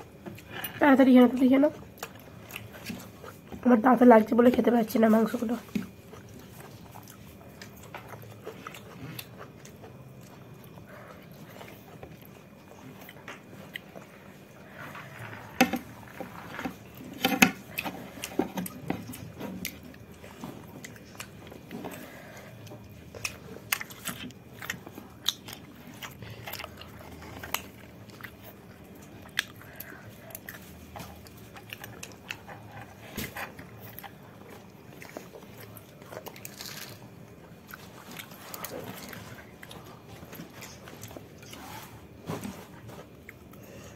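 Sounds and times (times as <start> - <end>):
person chewing with mouth smacks: 1.8 - 3.6, 5.6 - 43.8.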